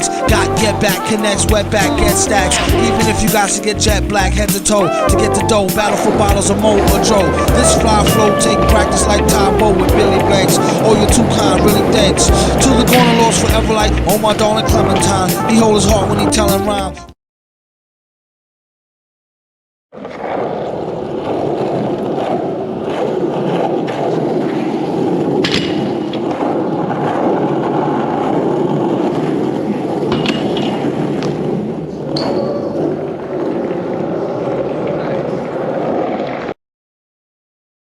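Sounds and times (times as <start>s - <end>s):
skateboard wheels rolling on concrete: 0.0s - 17.1s, 19.9s - 36.6s.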